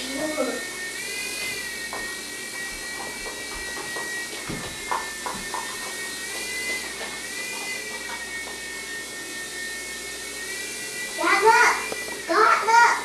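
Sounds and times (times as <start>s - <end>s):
toy motor and rotor whining: 0.0s - 13.0s.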